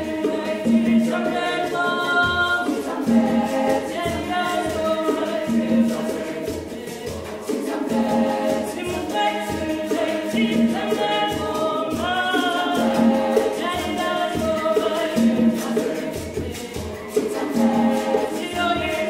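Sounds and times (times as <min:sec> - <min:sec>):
women's choir singing: 0:00.0 - 0:19.0.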